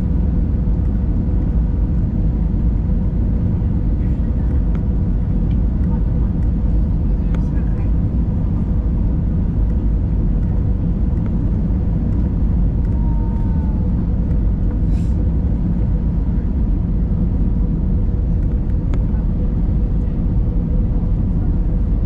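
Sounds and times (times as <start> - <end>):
engine and airflow rumble: 0.0 - 22.0.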